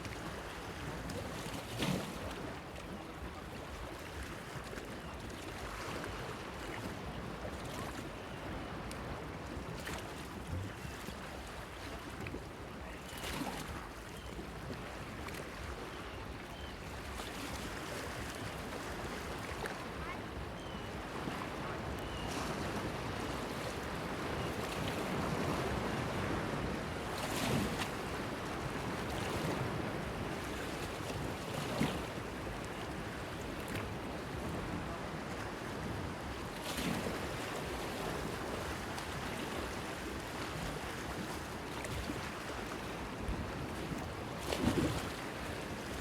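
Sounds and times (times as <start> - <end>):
wind: 0.0 - 46.0.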